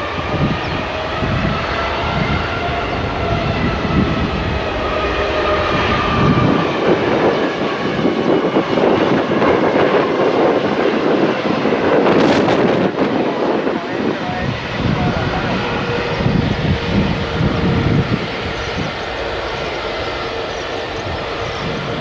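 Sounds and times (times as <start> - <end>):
jet engine rushing rumble: 0.0 - 22.0
jet engine whine: 0.0 - 22.0.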